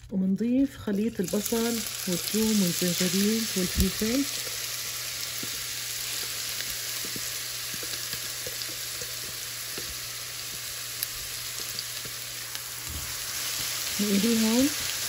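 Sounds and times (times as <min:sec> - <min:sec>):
food sizzling in hot oil: 0:00.9 - 0:15.0.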